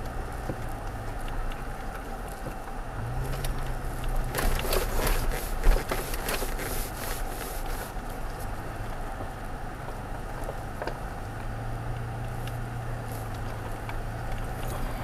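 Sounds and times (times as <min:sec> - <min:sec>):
truck engine hum: 0:00.0 - 0:15.0
tyres crunching on dirt road: 0:00.0 - 0:15.0.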